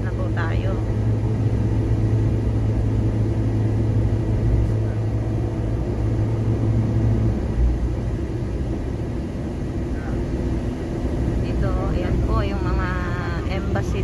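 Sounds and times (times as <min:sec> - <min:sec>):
van engine and road rumble: 0:00.0 - 0:14.0.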